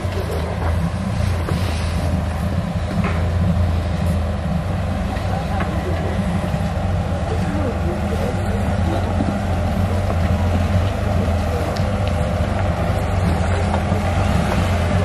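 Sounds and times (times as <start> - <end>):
vehicle engine running low drone: 0.0 - 15.0.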